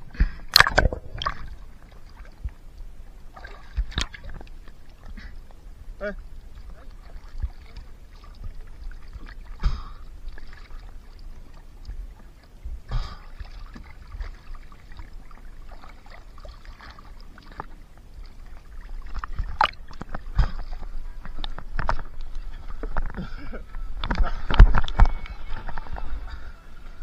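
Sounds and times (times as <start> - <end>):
water splashing against hull: 0.0 - 27.0.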